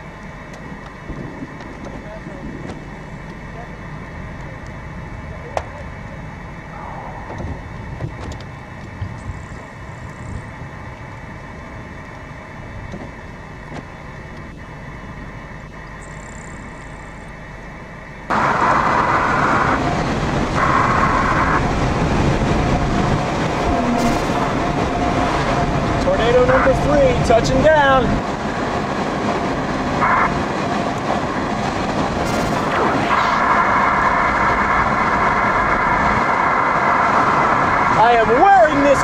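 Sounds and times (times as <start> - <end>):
car road and engine noise: 0.0 - 39.0
wind: 0.0 - 39.0.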